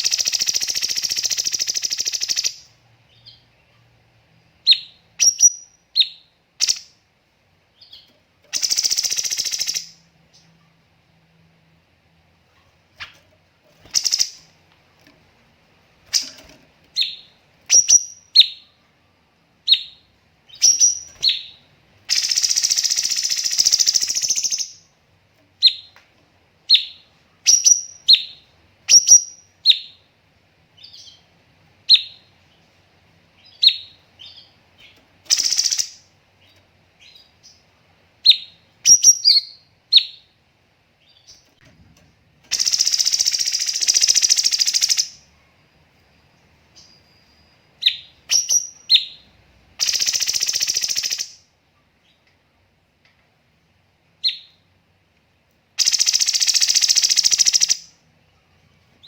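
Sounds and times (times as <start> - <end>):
bird chirping: 0.0 - 4.0, 4.6 - 7.0, 7.7 - 10.8, 12.5 - 15.1, 16.0 - 18.9, 19.6 - 25.0, 25.6 - 26.0, 26.6 - 30.1, 30.7 - 40.4, 41.0 - 41.7, 42.4 - 52.3, 54.2 - 54.7, 55.8 - 59.0.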